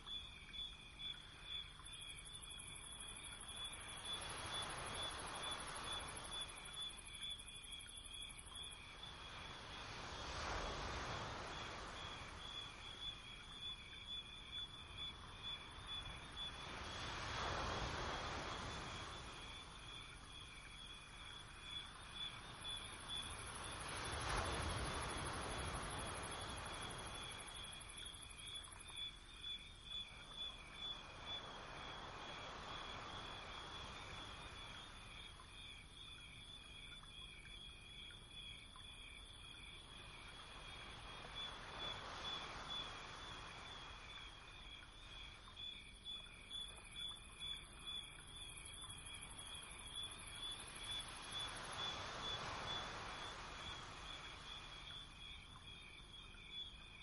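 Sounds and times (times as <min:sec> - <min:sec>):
soft hiss: 0:01.1 - 0:57.0.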